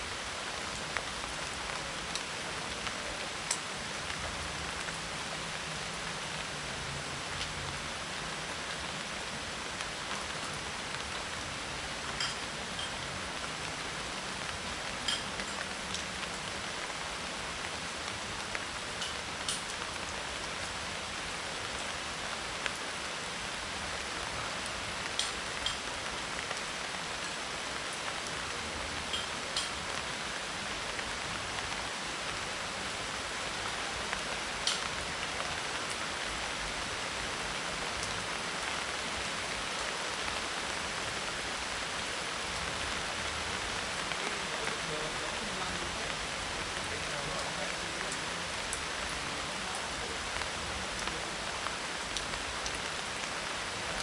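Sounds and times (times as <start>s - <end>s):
rain on dried leaves: 0.0s - 54.0s.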